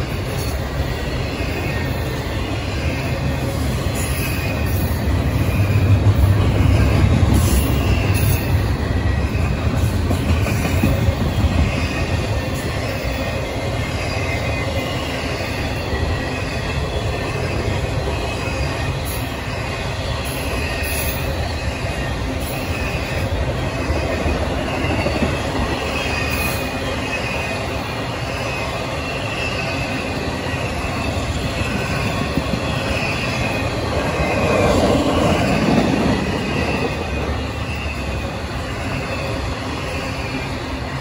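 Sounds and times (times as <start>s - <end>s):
freight train wheels rumbling: 0.0s - 41.0s
high wheel squeals: 0.0s - 41.0s.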